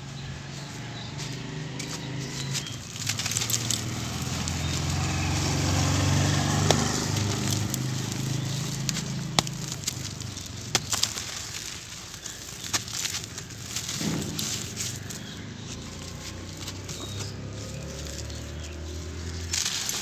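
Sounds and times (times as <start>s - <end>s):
dry dirt clumps crushed by hand: 0.0s - 20.0s.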